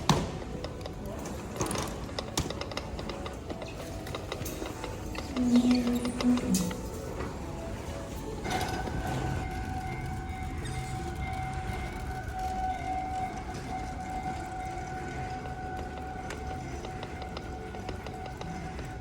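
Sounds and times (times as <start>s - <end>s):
electric train whine: 0.0s - 19.0s
low rumble of train car: 0.0s - 19.0s.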